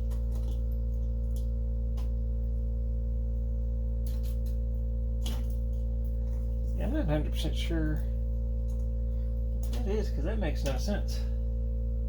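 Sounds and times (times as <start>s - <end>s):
steady hum of held tones: 0.0s - 12.0s.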